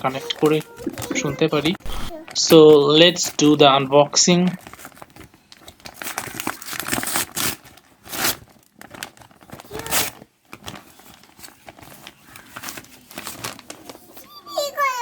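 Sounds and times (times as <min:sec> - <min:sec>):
packaging crinkling and tearing: 0:00.0 - 0:14.3.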